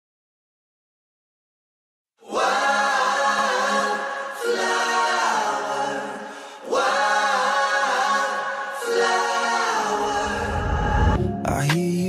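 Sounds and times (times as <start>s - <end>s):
harmonised voices singing: 2.2s - 12.0s.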